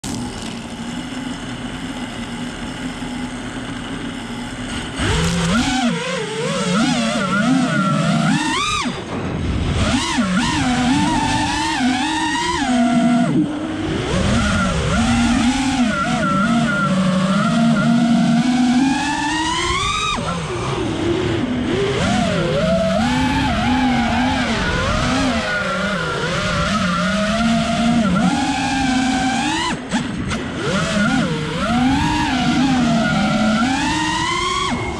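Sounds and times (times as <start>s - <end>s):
drone motors whining: 0.0s - 34.9s.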